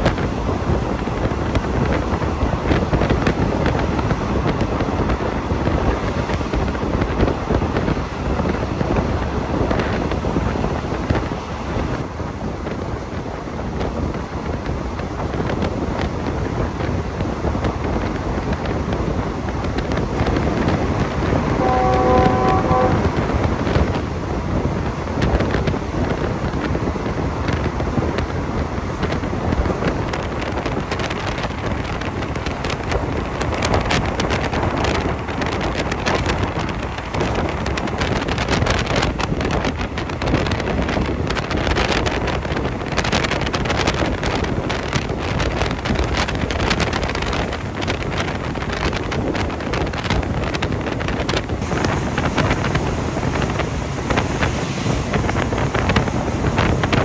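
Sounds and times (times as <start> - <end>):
train running on rails: 0.0 - 57.0
wind buffeting microphone: 0.0 - 57.0.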